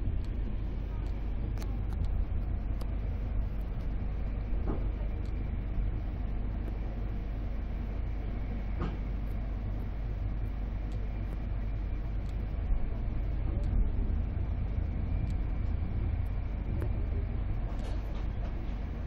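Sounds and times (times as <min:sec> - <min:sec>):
train coach rumbling on track: 0:00.0 - 0:19.0.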